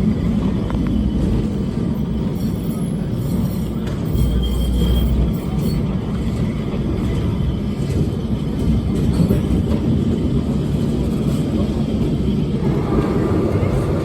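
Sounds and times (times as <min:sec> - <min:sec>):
streetcar running on rails: 0:00.0 - 0:14.0.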